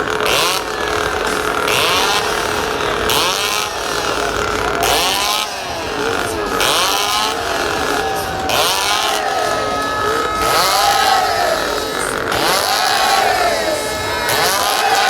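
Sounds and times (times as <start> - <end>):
chainsaws revving: 0.0 - 15.0.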